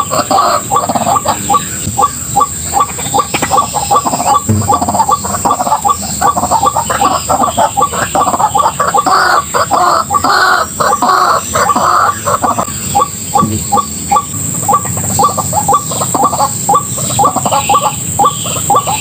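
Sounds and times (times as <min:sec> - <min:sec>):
waterhen harsh croaking calls: 0:00.0 - 0:19.0.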